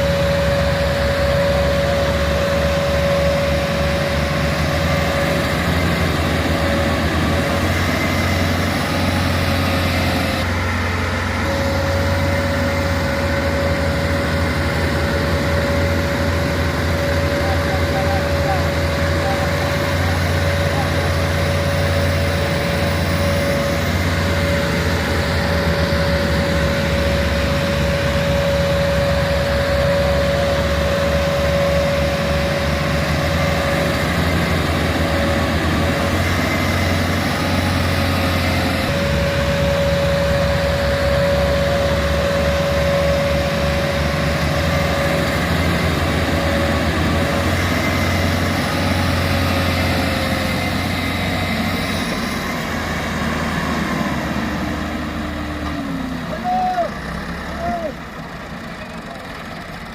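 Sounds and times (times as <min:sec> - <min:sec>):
steady whine: 0:00.0 - 0:59.9
tractor engine labouring: 0:00.0 - 0:59.9.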